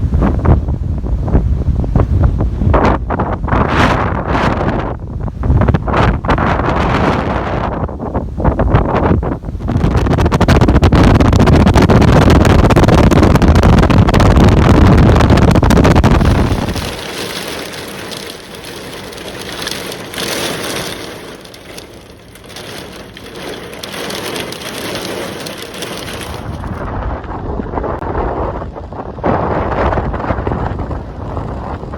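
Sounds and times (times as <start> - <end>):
strong wind buffeting microphone: 0.0 - 31.9.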